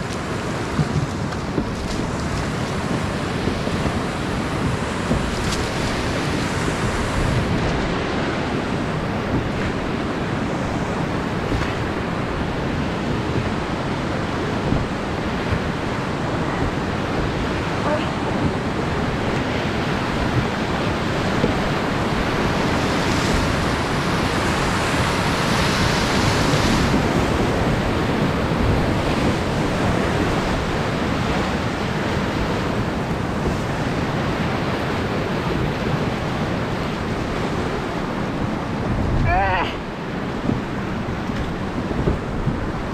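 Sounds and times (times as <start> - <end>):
whitewater rushing: 0.0 - 42.9.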